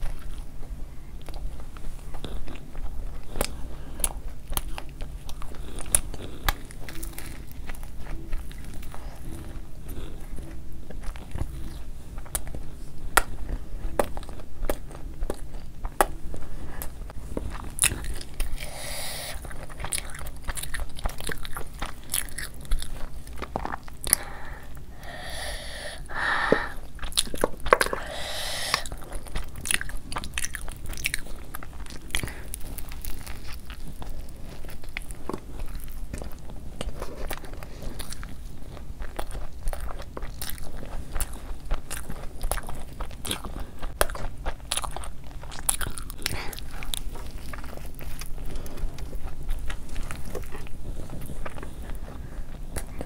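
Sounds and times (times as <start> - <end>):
close chewing with mouth clicks: 0.0 - 53.0.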